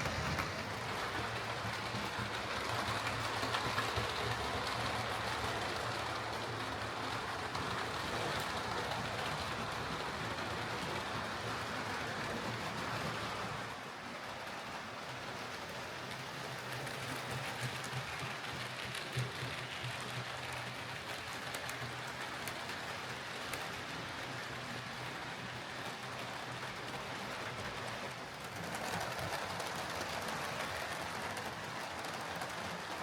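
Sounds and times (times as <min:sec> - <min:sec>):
model train wheels on rails: 0:00.0 - 0:33.0.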